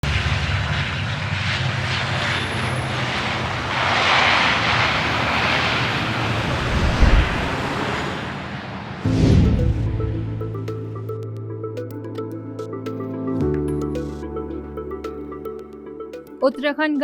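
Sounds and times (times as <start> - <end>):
aircraft engine running: 0.0 - 16.4.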